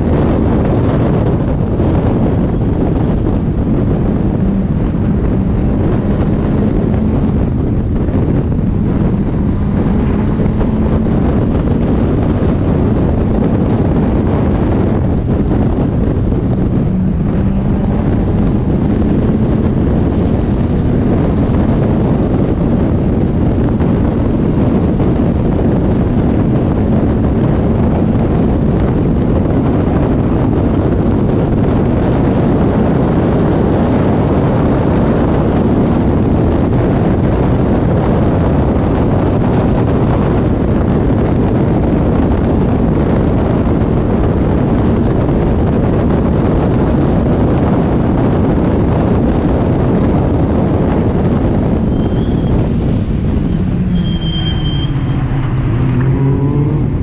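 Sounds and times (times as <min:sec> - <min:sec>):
car engine running hard: 0:00.0 - 0:57.0
wind rush: 0:00.0 - 0:57.0.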